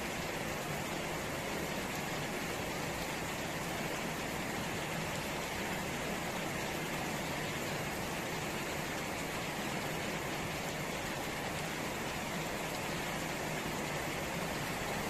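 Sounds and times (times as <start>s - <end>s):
rain splashing into puddles: 0.0s - 15.0s.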